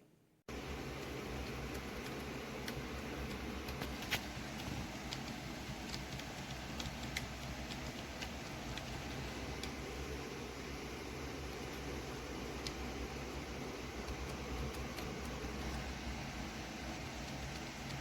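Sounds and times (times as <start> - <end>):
room noise hum and hiss: 0.0 - 18.0.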